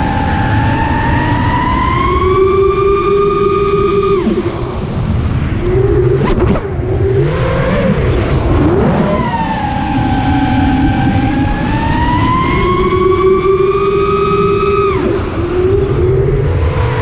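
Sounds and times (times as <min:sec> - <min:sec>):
drone motors whining: 0:00.0 - 0:17.0
low rumble of air noise: 0:00.0 - 0:17.0.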